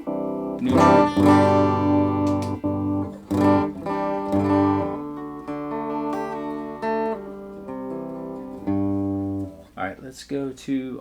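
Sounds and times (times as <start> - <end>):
electric guitar chords ringing: 0.0 - 9.7.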